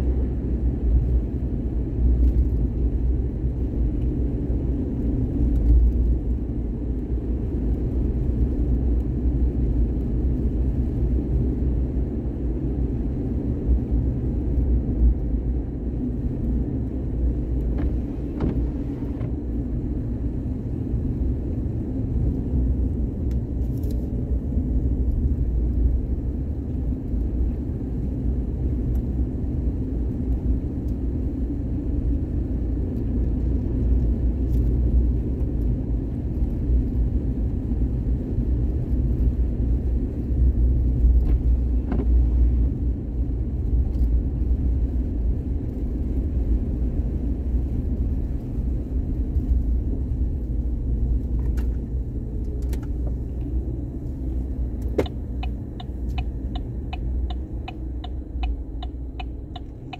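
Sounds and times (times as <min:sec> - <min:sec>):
vehicle rumble in motion: 0:00.0 - 0:59.9.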